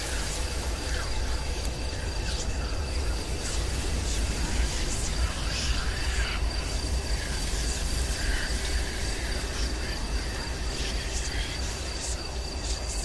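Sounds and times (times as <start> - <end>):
high cricket-like trill: 0.0 - 13.0.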